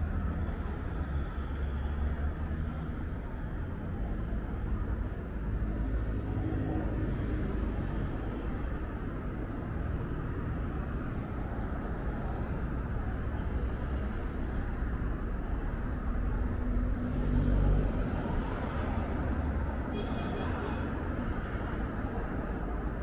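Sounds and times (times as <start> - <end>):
cars and buses passing: 0.0 - 23.0.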